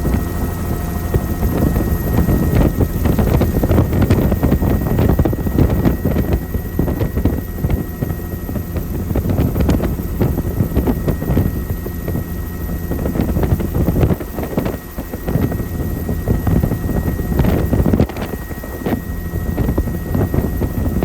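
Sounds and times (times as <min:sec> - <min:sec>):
helicopter rotor and engine rumble: 0:00.0 - 0:21.0
wind buffeting: 0:00.0 - 0:21.0.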